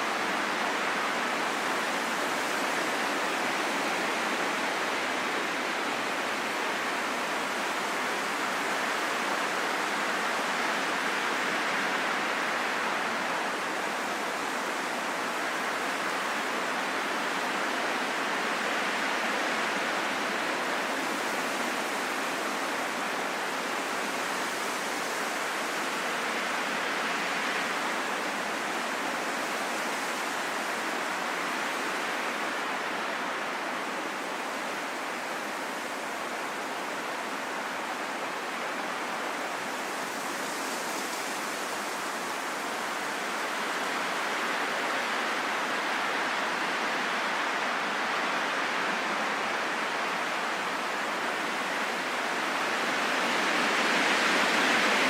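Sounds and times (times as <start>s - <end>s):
rain falling in a forest: 0.0s - 55.0s.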